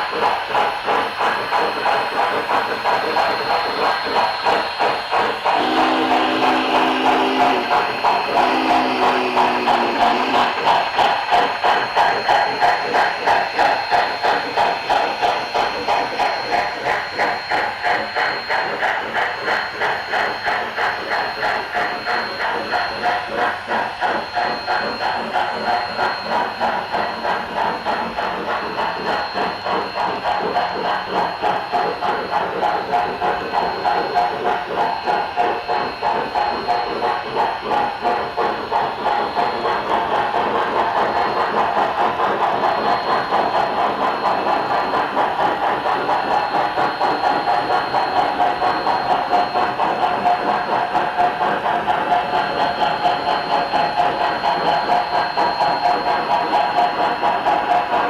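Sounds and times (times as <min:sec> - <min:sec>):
model locomotive steam chuffs: 0:00.0 - 0:58.0.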